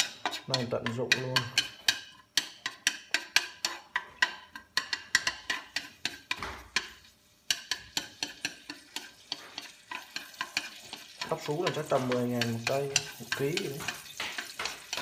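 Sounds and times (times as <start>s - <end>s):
chopsticks tapping against a wok: 0.0s - 15.0s
onion frying in oil: 0.0s - 15.0s.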